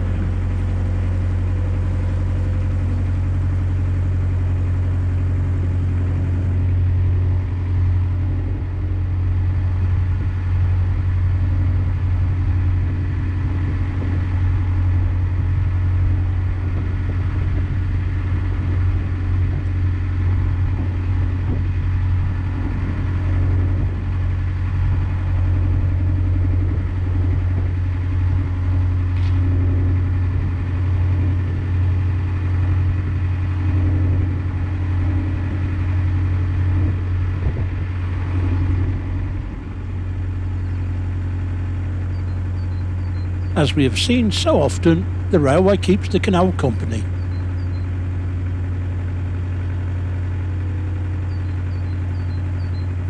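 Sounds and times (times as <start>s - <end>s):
boat engine low hum: 0.0s - 53.0s.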